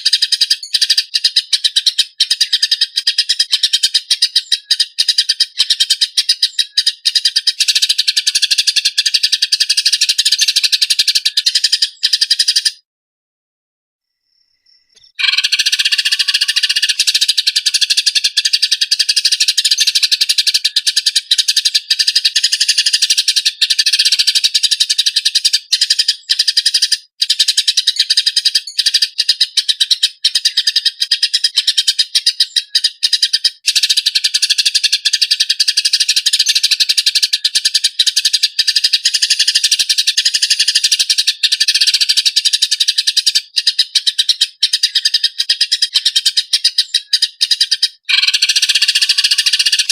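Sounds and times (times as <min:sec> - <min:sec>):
sparrows harsh chirping chatter: 0:00.0 - 0:12.8, 0:14.9 - 0:49.9.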